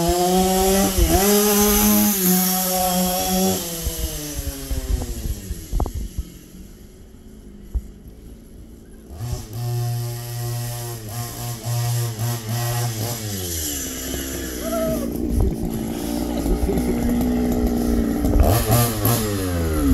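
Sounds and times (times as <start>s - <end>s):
small two-stroke engine revving: 0.0s - 19.9s.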